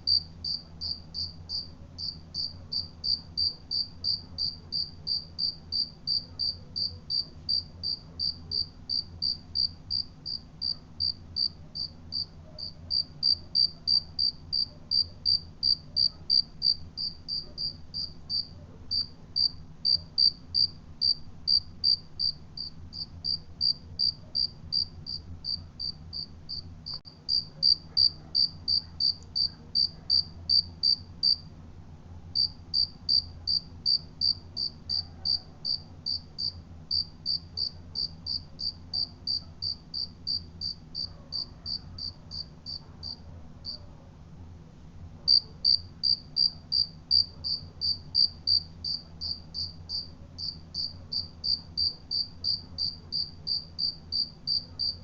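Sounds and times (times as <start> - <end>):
cricket chirping: 0.0 - 31.4, 32.4 - 43.8, 45.3 - 55.0
faint low hum: 0.0 - 55.0.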